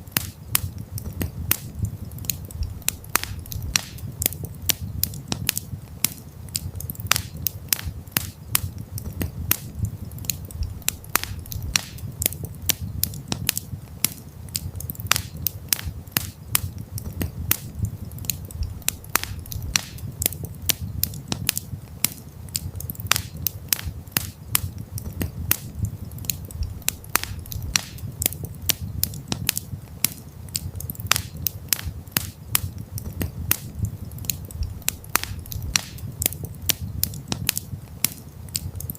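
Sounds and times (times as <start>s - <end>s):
campfire flames rumbling: 0.0s - 38.9s
fire crackling and popping: 0.0s - 38.9s.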